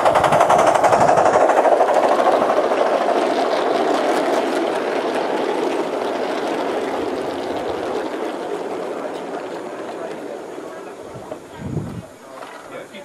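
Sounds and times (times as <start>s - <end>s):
model train wheels clattering on rail: 0.0s - 13.0s.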